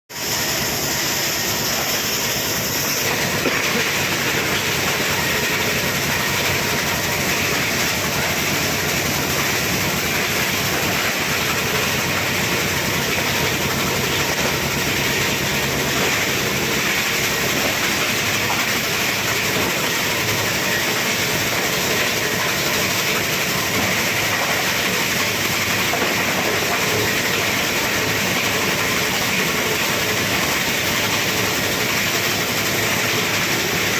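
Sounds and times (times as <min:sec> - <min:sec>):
plastic grinder machine clattering: 0:00.2 - 0:33.9.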